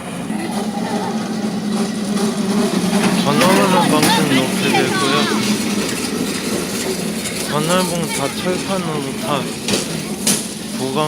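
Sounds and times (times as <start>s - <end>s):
vehicle motor humming: 0.0s - 11.0s.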